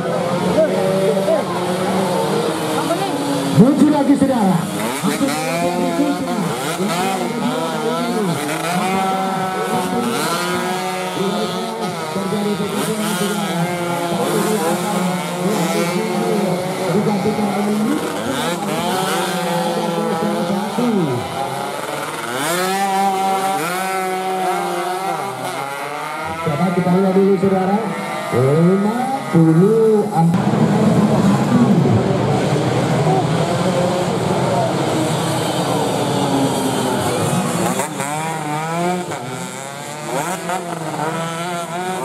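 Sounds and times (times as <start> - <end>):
racing motorcycles revving past: 0.0 - 42.0.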